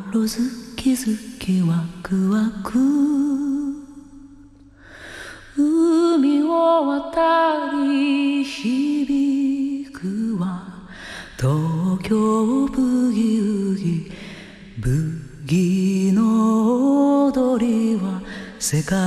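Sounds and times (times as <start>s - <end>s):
person singing with vibrato: 0.0s - 4.2s, 5.4s - 19.0s.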